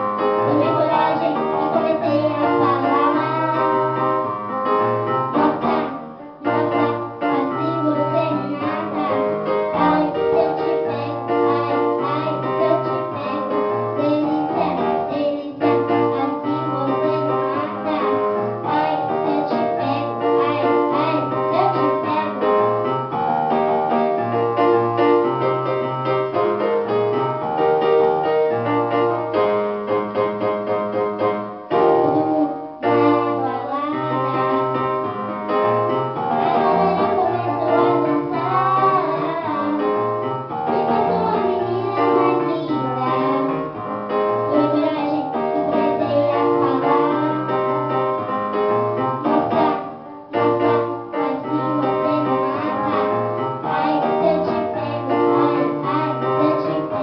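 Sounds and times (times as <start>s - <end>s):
girl singing into a microphone: 0.0s - 24.3s, 31.2s - 48.4s, 49.0s - 57.0s
electronic keyboard chords and bass: 0.0s - 57.0s.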